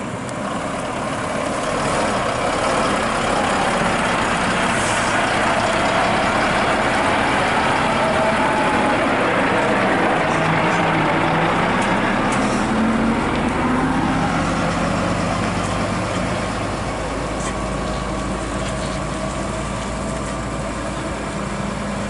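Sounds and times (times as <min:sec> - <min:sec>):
road noise: 0:00.0 - 0:22.0
truck diesel engine running: 0:00.0 - 0:22.0.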